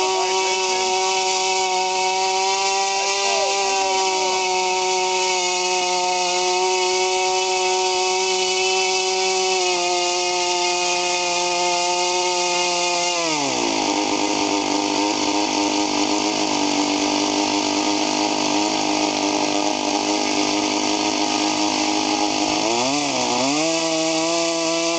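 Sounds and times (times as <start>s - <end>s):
model engine high whine: 0.0s - 24.9s.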